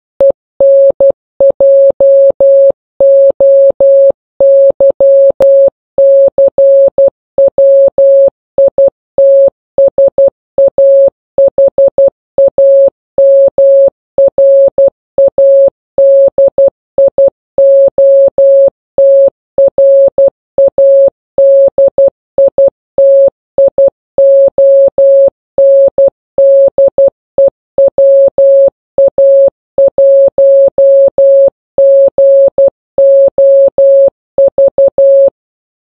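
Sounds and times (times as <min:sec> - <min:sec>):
morse code tone: 0:00.2 - 0:35.4.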